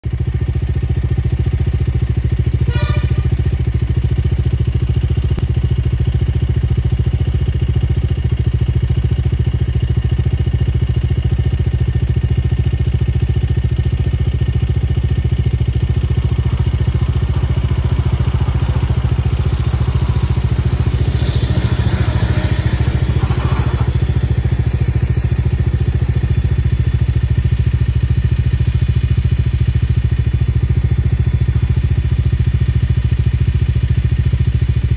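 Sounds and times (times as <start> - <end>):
vehicle engine idling: 0.0 - 34.9.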